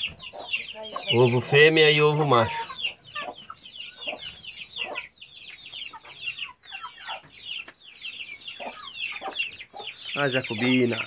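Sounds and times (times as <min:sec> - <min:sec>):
chicks peeping: 0:00.0 - 0:11.0
hen clucks: 0:00.0 - 0:11.0.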